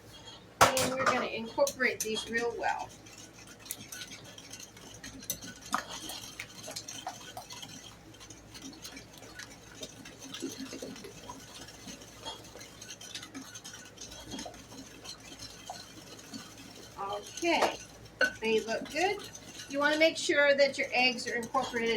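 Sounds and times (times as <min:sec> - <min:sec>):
whisk clicking and scraping bowl: 0:00.0 - 0:21.9.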